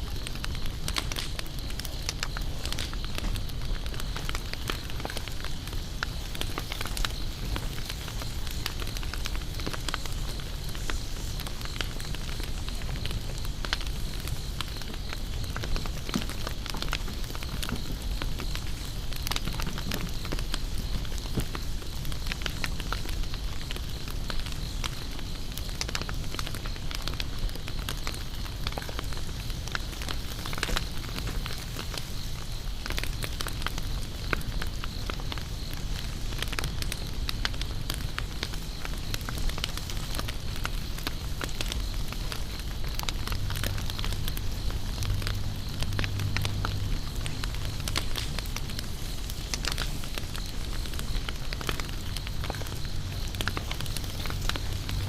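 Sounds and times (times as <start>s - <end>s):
campfire crackling: 0.0s - 55.0s
insects droning: 0.0s - 55.0s.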